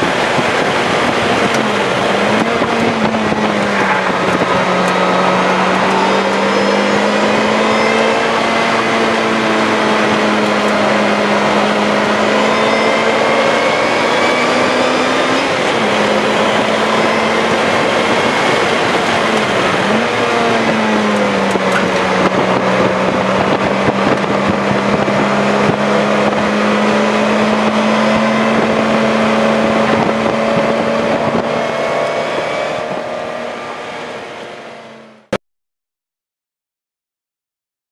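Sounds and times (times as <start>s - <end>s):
car engine running: 0.0s - 35.4s
road and wind noise: 0.0s - 35.4s.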